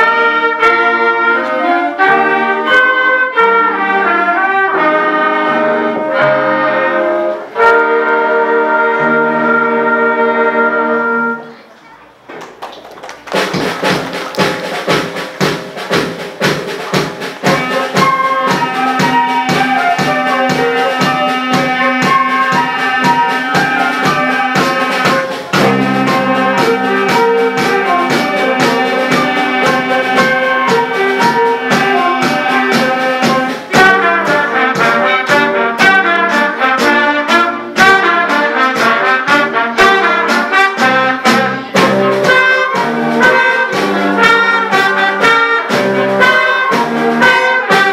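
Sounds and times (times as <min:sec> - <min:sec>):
concert band playing: 0:00.0 - 0:47.9.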